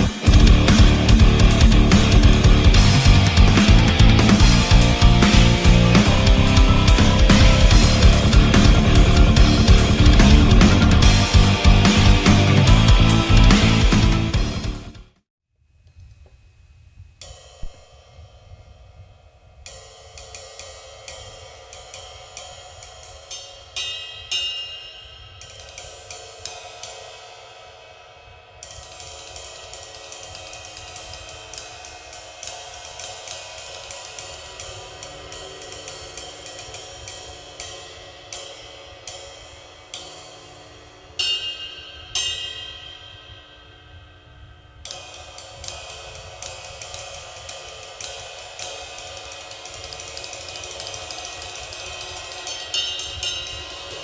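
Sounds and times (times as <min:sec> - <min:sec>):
ride cymbal struck with stick: 0:00.0 - 0:14.9, 0:17.2 - 0:54.0.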